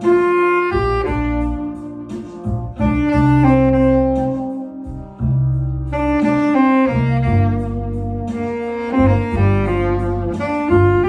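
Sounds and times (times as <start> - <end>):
backing track with bass: 0.0 - 11.0
tenor saxophone melody: 0.0 - 11.0.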